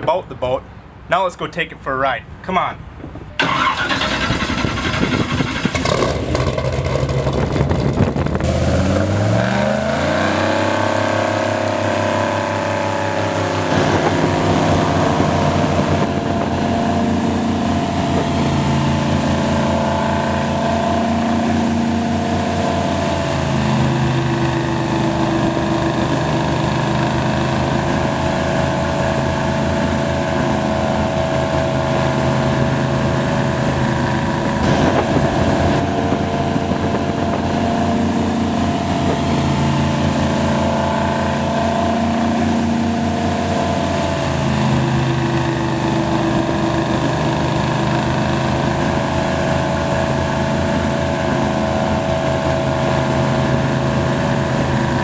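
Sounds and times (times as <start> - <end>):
airboat engine and propeller: 3.4 - 55.0.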